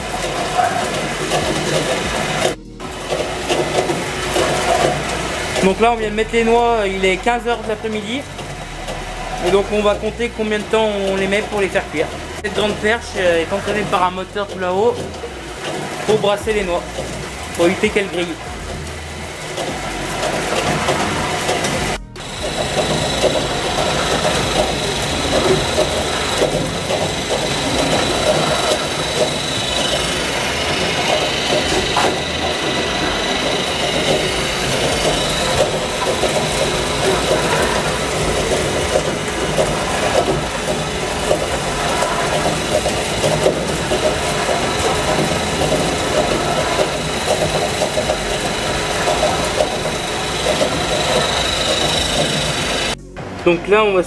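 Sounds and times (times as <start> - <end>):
motor-driven stirring machine running: 0.0 - 53.5.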